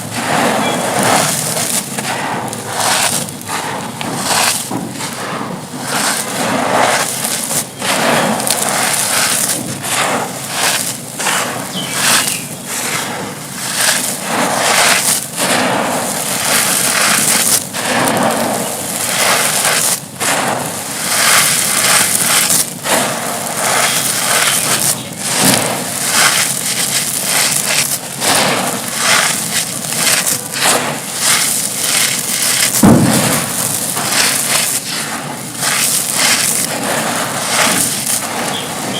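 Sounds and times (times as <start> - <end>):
concrete chunks crunching: 0.0 - 38.9
loud crack: 0.0 - 38.9.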